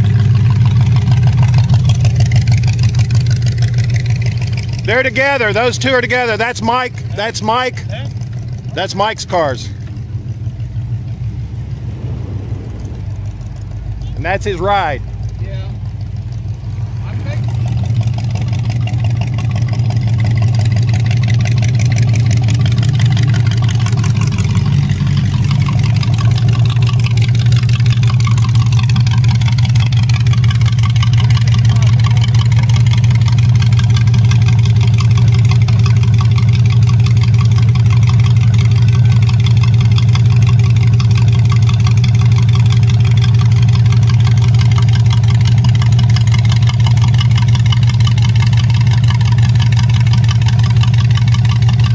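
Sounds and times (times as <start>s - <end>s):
engine idling loudly: 0.0s - 51.9s.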